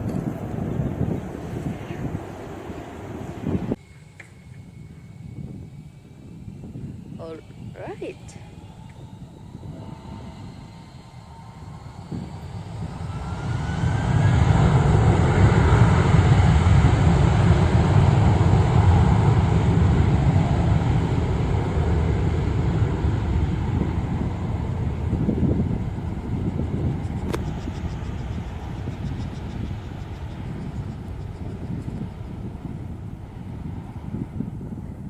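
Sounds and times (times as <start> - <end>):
jet engines spooling up: 0.0 - 6.8, 7.5 - 34.5.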